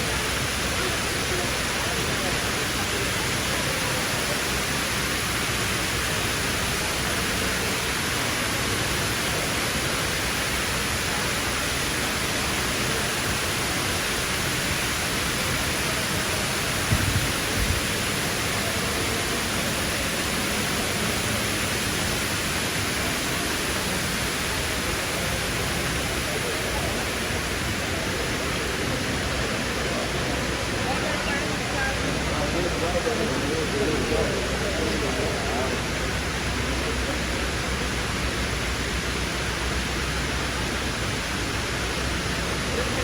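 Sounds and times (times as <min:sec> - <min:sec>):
indoor waterfall rushing: 0:00.0 - 0:43.0.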